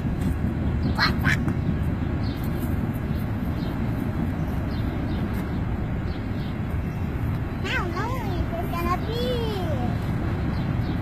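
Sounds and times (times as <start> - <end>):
passing train rumble: 0.0 - 11.0.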